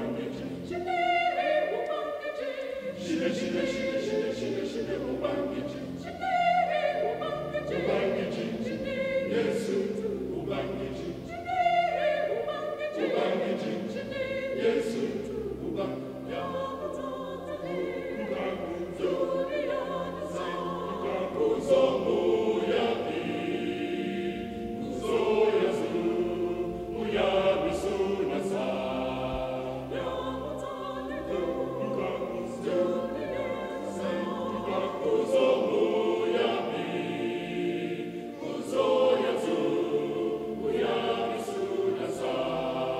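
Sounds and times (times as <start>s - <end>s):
mixed choir singing in harmony: 0.0s - 42.9s.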